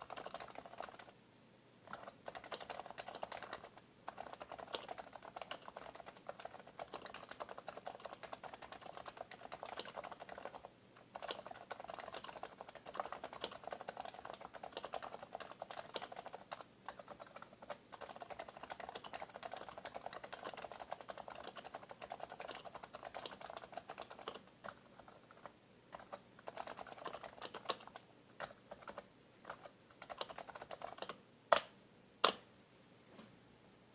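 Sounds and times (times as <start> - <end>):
fast typing on keyboard: 0.0 - 1.2, 1.8 - 32.4.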